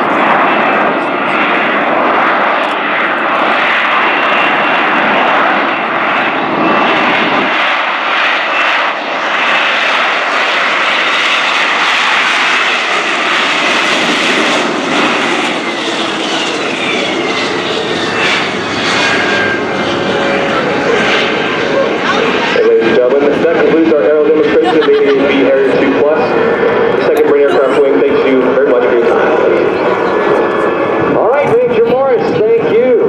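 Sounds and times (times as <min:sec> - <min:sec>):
jet engine roaring with whine: 0:00.0 - 0:33.0.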